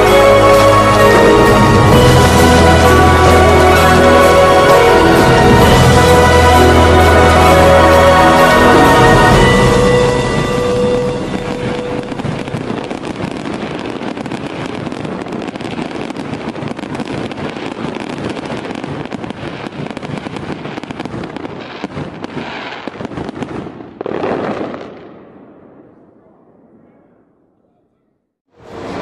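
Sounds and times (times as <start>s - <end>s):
fireworks crackling: 0.0s - 26.8s, 28.6s - 29.0s
loud firework burst: 0.0s - 26.9s.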